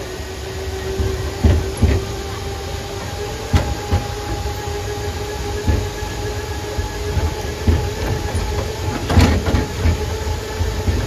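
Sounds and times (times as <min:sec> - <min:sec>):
tram motor whine and rumble: 0:00.0 - 0:11.0
knocks and rattles on boardwalk: 0:00.8 - 0:04.8, 0:05.4 - 0:11.0.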